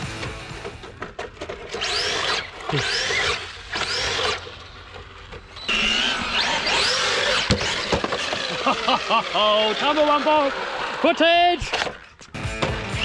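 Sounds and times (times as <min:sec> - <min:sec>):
electric motor whining in bursts: 0:01.6 - 0:13.0.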